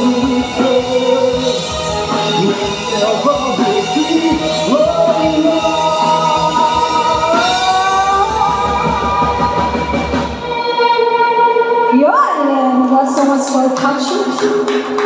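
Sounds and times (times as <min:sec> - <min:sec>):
drums: 0:00.0 - 0:15.0
electric guitars bending notes: 0:00.0 - 0:15.0.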